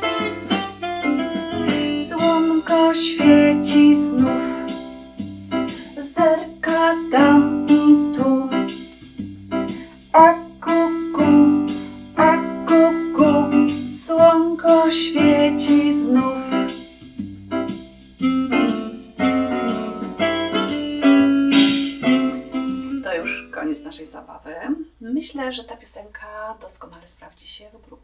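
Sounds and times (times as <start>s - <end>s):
bouncy keyboard piano notes: 0.0s - 24.0s.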